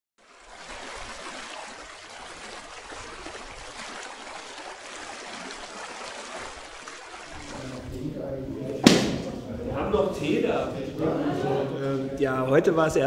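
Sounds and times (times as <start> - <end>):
flowing water rushing: 0.2 - 11.7.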